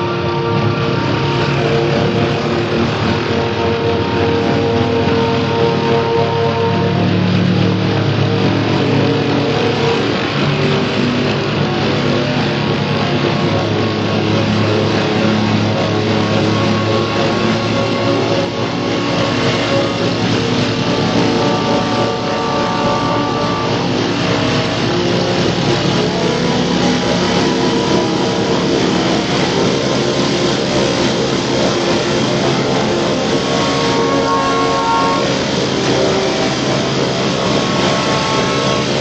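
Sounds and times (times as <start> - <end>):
piston aircraft engine: 0.0 - 39.0.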